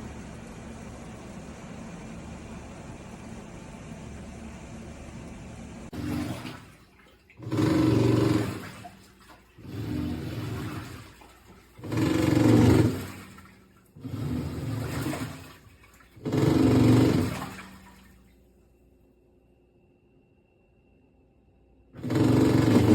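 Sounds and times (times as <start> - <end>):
washing machine agitating water: 0.0 - 18.8, 22.0 - 22.9.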